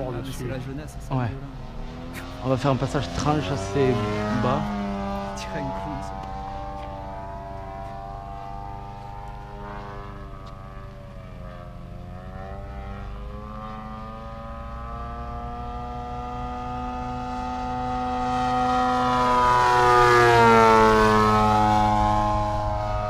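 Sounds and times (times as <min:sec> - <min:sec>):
model plane engine and propeller: 0:02.2 - 0:23.0.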